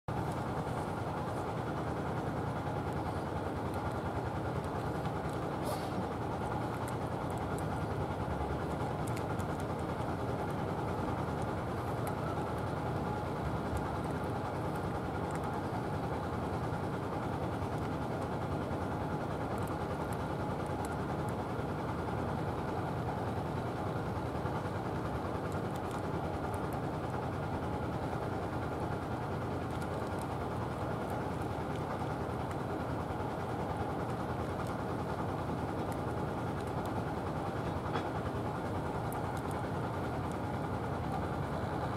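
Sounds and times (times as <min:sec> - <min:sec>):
low outdoor rumble: 0:00.1 - 0:41.9.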